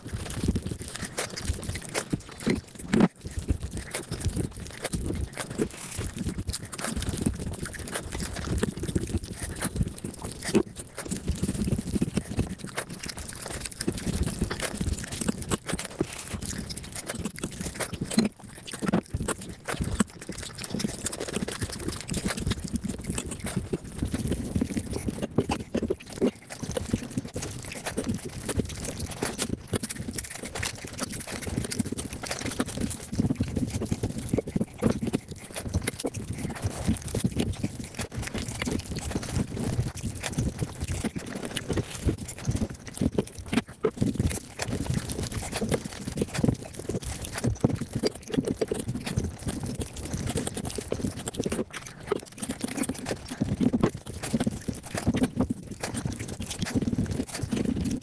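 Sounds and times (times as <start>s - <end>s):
fast chewing and smacking: 0.0s - 58.0s.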